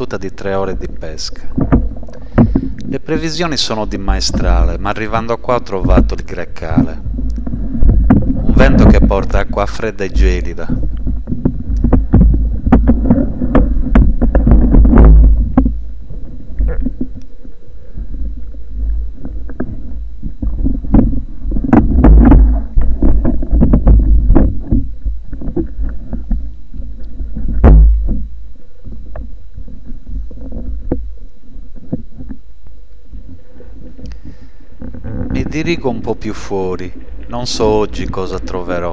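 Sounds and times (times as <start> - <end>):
underwater rumble of water: 0.0 - 38.9
underwater clicks and knocks: 0.7 - 2.9, 5.7 - 38.9.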